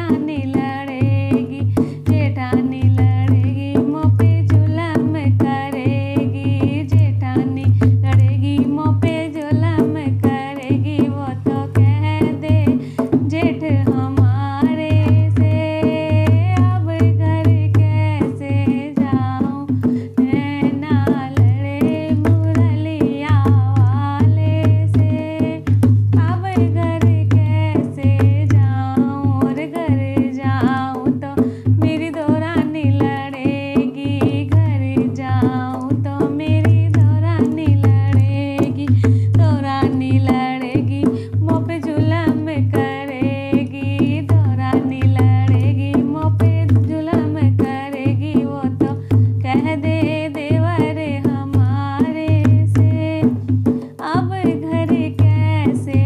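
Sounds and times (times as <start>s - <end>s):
hand drum strokes: 0.0s - 56.0s
woman singing devotional song: 0.0s - 56.0s.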